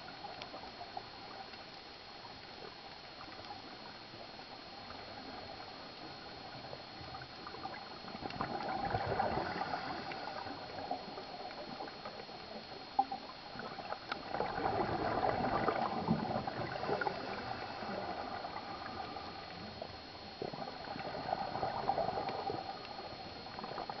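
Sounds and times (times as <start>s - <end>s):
underwater bubbles gurgling: 0.0s - 24.0s.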